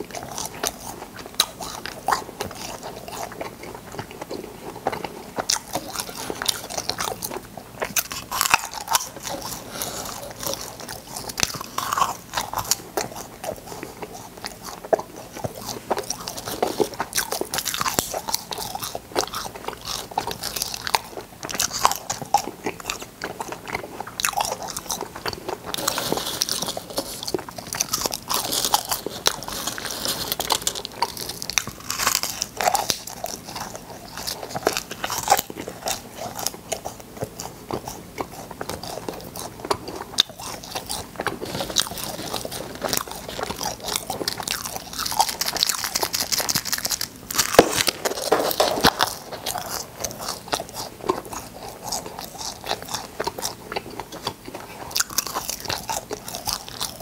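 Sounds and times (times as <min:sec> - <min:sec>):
popping candy crunched and chewed: 0:00.0 - 0:57.0.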